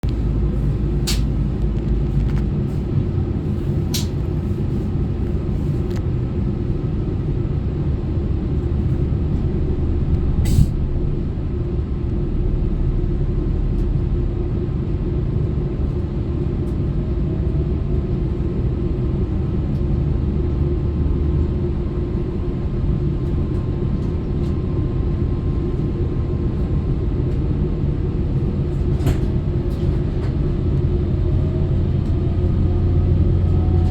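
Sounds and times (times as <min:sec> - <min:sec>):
train diesel engine drone: 0:00.0 - 0:33.9.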